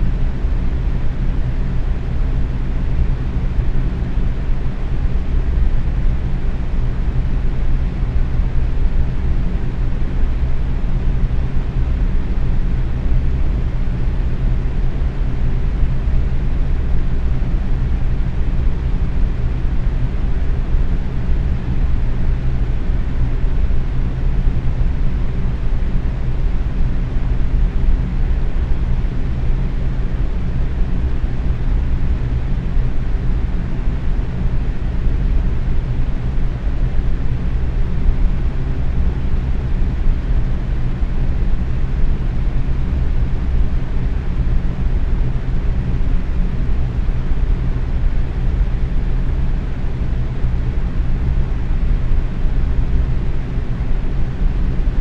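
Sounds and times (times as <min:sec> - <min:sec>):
box fan running: 0:00.0 - 0:55.0.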